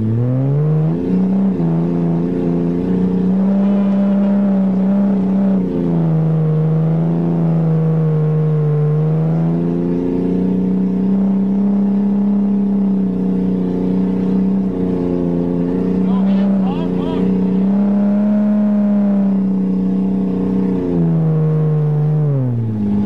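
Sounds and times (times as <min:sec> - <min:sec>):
car engine from inside cabin: 0:00.0 - 0:23.0.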